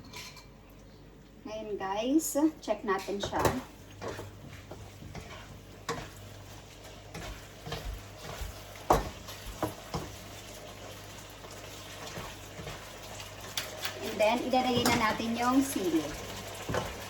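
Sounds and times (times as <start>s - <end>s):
pot simmering and sizzling: 1.5s - 17.0s.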